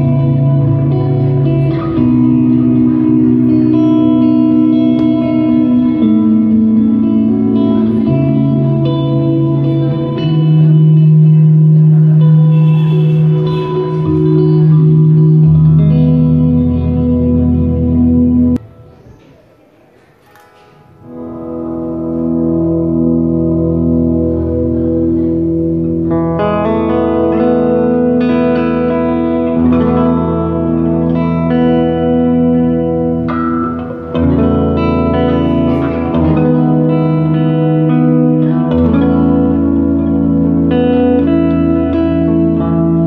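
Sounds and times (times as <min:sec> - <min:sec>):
electric guitar with reverb and delay: 0:00.0 - 0:43.0.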